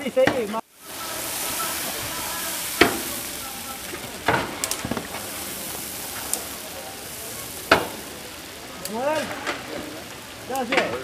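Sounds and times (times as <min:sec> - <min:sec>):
food sizzling in a pot: 0:00.4 - 0:11.0.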